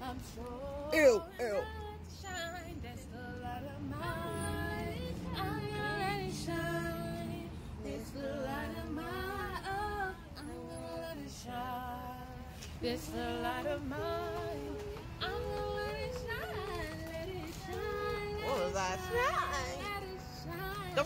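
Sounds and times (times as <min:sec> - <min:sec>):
woman singing: 0:00.0 - 0:21.0.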